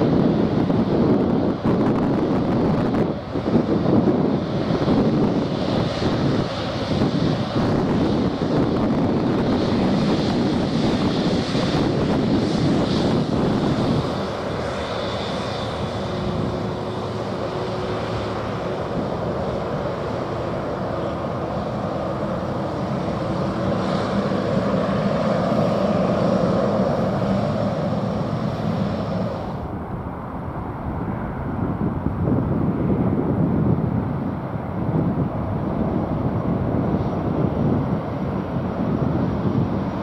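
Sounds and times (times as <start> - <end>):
jet engines rumbling with whine: 0.0 - 40.0.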